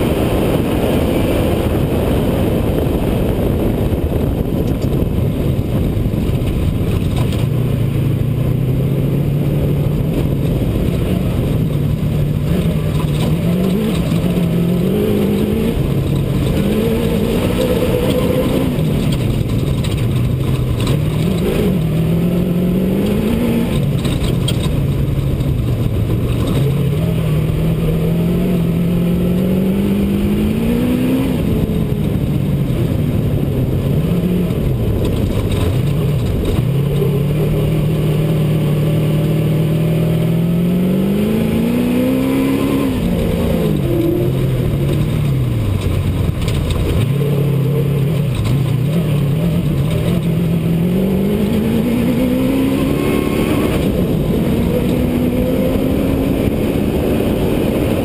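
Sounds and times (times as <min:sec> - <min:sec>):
truck engine revving: 0:00.0 - 0:58.0
tyres on dirt: 0:01.4 - 0:58.0.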